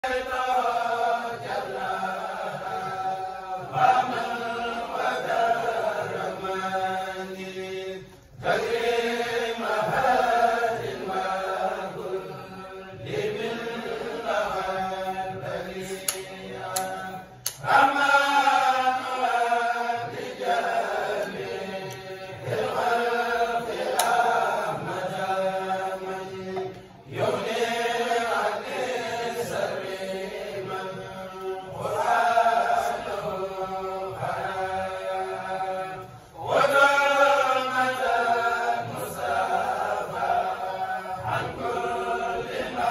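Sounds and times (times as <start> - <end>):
group of men chanting: 0.0 - 42.9.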